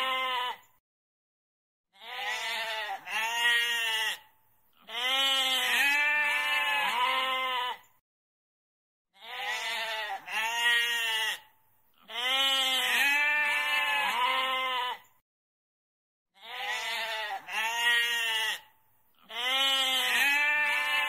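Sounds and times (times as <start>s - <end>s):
goat bleating: 0.0s - 0.7s, 2.0s - 7.9s, 9.2s - 15.1s, 16.4s - 21.0s.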